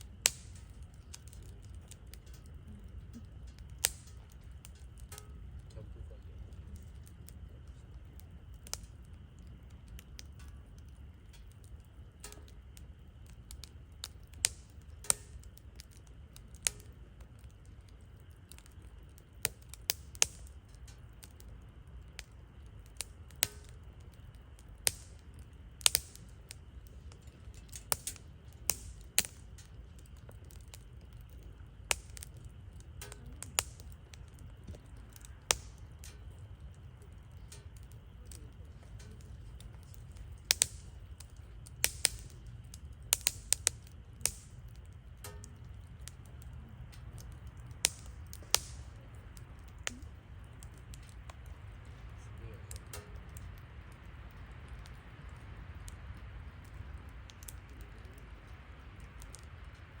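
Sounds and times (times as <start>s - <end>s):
campfire crackling and popping: 0.0s - 60.0s
low steady rumble: 0.0s - 60.0s.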